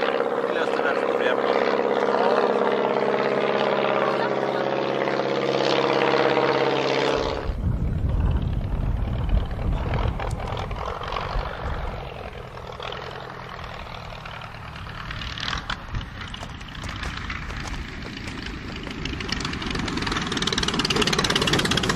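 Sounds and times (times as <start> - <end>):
propeller aircraft engine droning: 0.0 - 21.9
rough engine rumble: 0.0 - 21.9.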